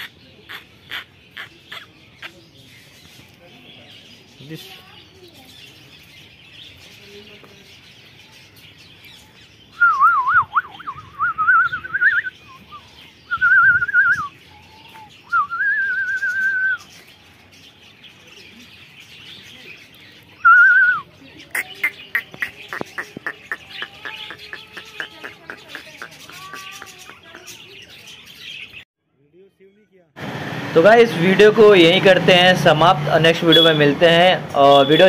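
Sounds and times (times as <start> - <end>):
caged birds chirping: 0.0 - 35.0.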